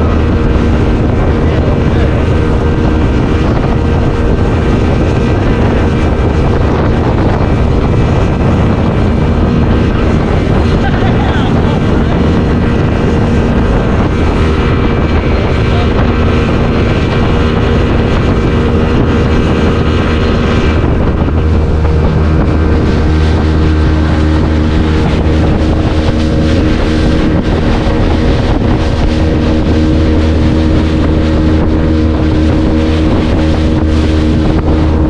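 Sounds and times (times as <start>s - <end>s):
speedboat engine running: 0.0s - 35.0s
water rushing: 0.0s - 35.0s
wind buffeting microphone: 0.0s - 35.0s.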